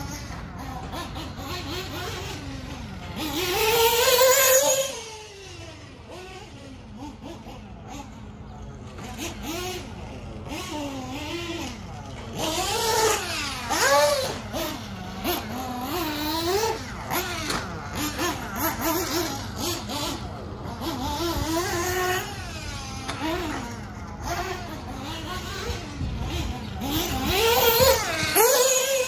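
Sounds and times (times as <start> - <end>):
model buggy engine revving: 0.0 - 29.0.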